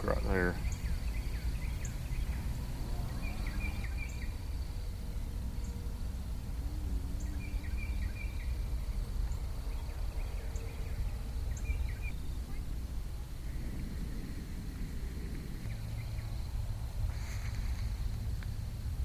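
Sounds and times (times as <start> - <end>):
bird chirping: 0.0 - 6.0, 6.6 - 16.6
high insect trill: 0.0 - 19.0
low steady rumble: 0.0 - 19.0.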